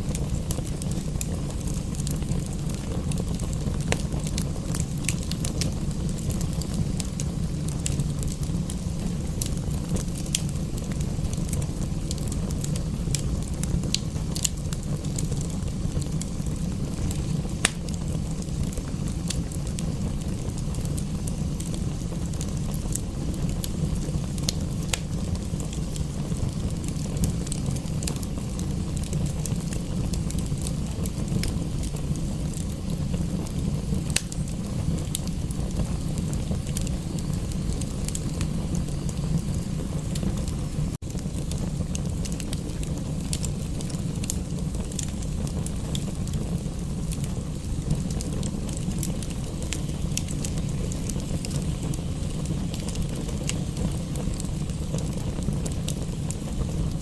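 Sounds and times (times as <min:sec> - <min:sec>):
low rushing fire rumble: 0:00.0 - 0:57.0
wood fire crackling and popping: 0:00.0 - 0:57.0.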